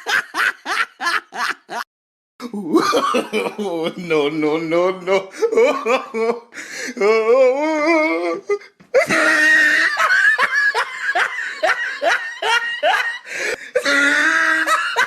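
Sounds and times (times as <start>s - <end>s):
person laughing: 0.0s - 4.1s, 5.2s - 15.0s.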